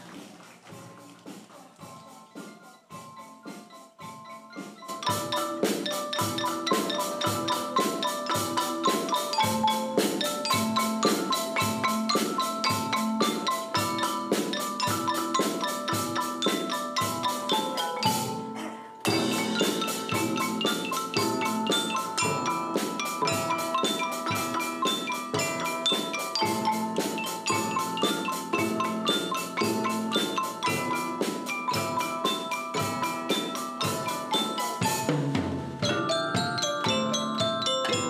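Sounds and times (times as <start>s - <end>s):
drum kit and bass drum: 0.0s - 38.0s
marimbas and xylophones: 0.7s - 38.0s.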